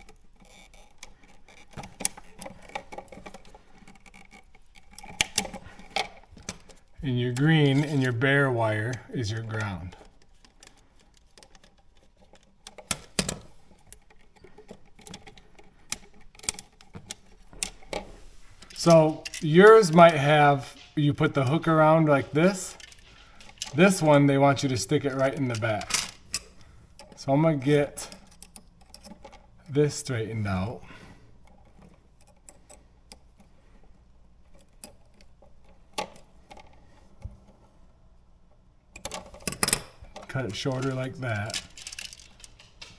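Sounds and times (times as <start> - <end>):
clicks and taps of handled wires: 0.0 - 18.0, 18.6 - 30.7, 31.4 - 37.8, 38.5 - 42.9.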